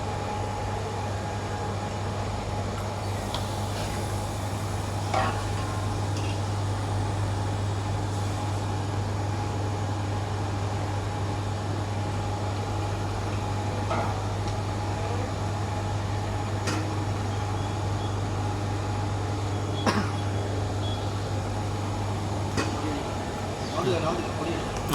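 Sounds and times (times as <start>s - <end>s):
refrigeration unit humming: 0.0s - 24.9s.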